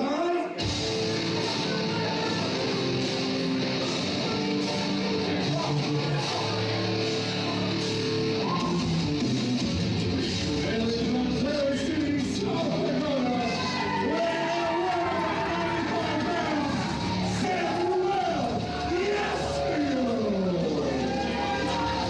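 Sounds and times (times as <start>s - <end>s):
rock music with singing: 0.0s - 22.0s.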